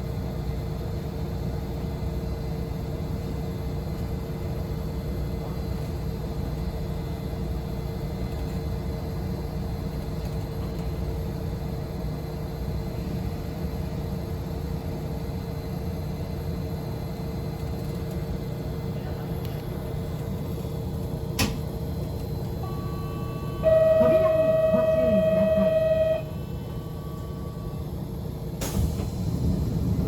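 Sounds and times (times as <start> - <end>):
train cabin rumble and hum: 0.0 - 30.0.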